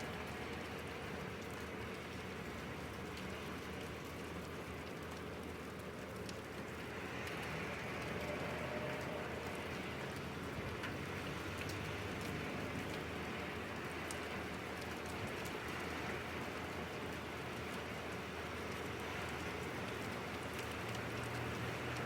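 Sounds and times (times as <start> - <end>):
raindrops ticking on a surface: 0.0 - 22.0
steady rain: 0.0 - 22.0.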